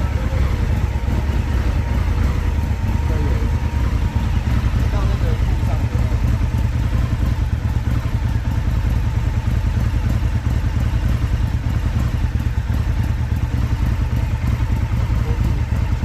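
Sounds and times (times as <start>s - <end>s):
motorcycle engine idling unevenly: 0.0s - 16.0s.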